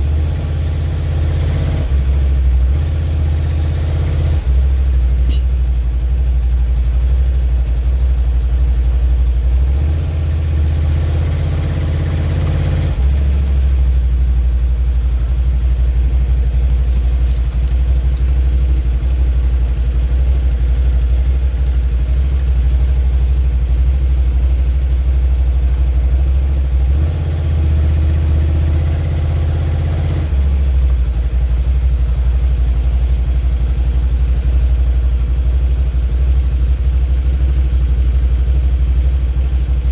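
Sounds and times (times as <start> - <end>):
quad bike engine idling: 0.0 - 39.9.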